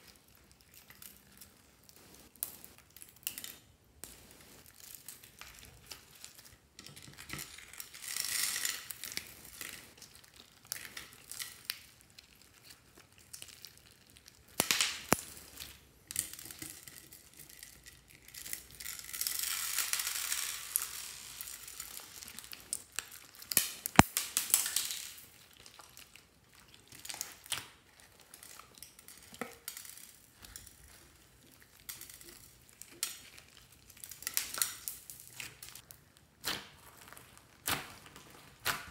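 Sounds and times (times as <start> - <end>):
hands squishing crunchy slime: 0.0 - 38.9.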